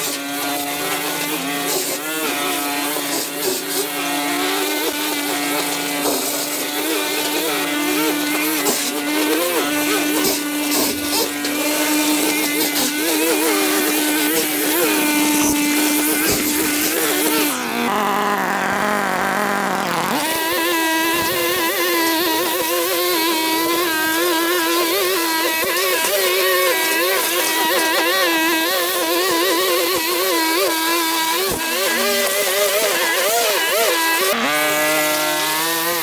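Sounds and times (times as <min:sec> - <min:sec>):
small petrol engine running: 0:00.0 - 0:36.0.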